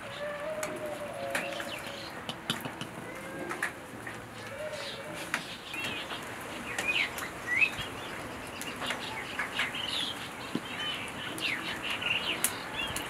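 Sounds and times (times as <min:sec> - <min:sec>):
small birds chirping: 0:00.0 - 0:03.2, 0:04.0 - 0:13.0.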